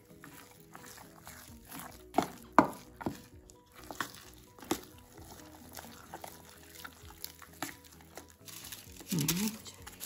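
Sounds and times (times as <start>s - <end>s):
dough mixed by hand: 0.0s - 10.0s.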